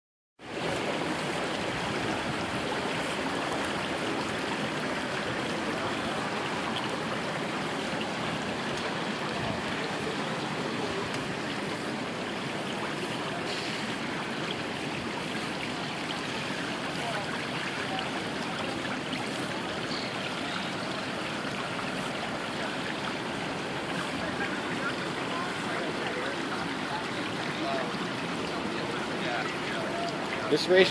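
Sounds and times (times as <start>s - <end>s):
fish churning water surface: 0.4s - 30.9s
water rushing and splashing in tanks: 0.4s - 30.9s.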